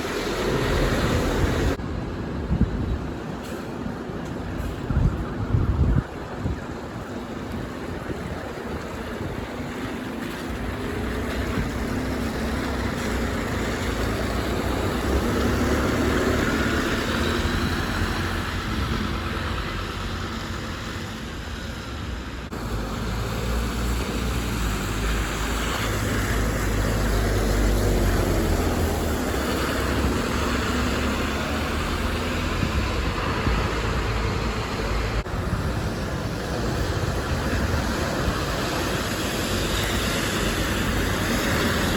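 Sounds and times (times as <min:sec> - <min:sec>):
bus engines running: 0:00.0 - 0:41.9.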